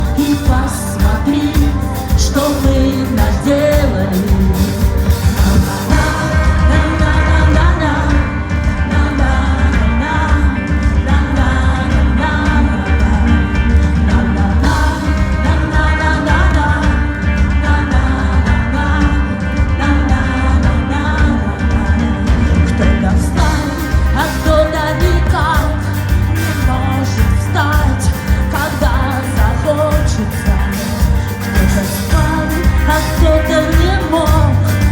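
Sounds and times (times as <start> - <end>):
live rock-pop band: 0.0 - 34.9
woman singing: 0.0 - 34.9.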